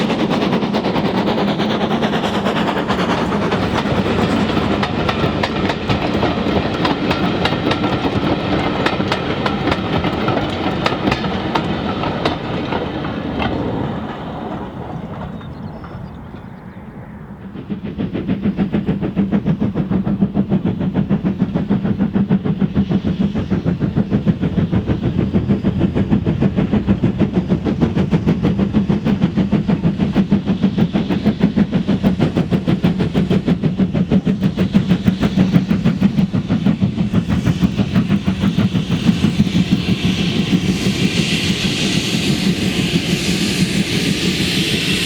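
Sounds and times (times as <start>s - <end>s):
steam hissing: 0.0s - 14.4s, 17.2s - 45.0s
steam locomotive exhaust beating: 0.0s - 45.0s.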